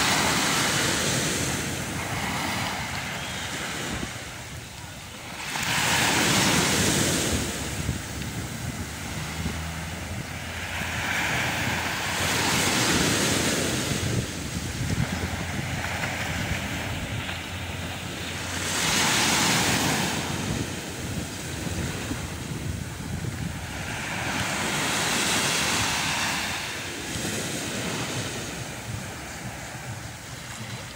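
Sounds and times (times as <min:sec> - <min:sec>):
sea waves washing on beach: 0:00.0 - 0:30.9
wind on microphone: 0:00.0 - 0:30.9.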